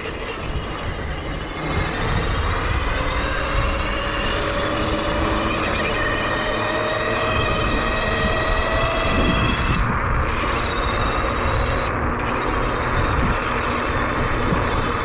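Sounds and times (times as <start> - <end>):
electric motor whining: 0.0 - 15.0
wind and tyre rumble: 0.0 - 15.0.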